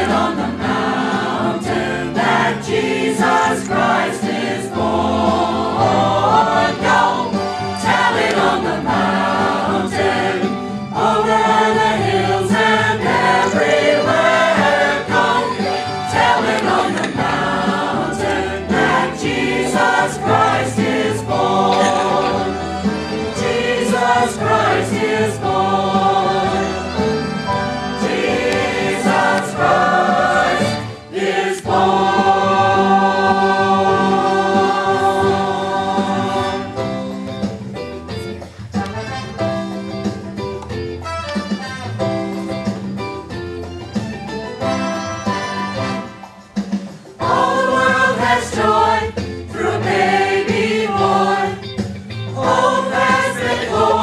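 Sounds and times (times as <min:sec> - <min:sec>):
church choir singing: 0:00.0 - 0:37.1, 0:47.2 - 0:54.0.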